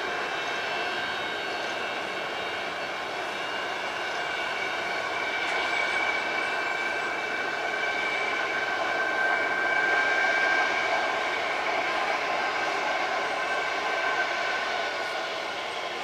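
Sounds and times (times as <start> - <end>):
jet engine whine: 0.0 - 16.0.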